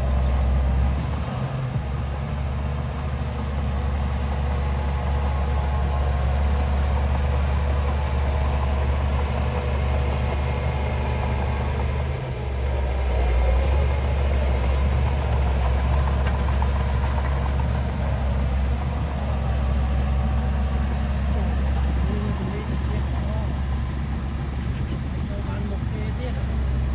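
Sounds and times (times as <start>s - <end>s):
heavy diesel engine droning: 0.0s - 26.9s.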